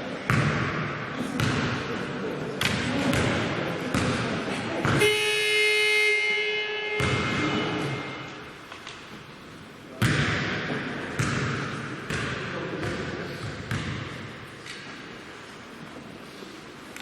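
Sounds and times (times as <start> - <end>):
basketball bouncing in hall: 0.0 - 15.3.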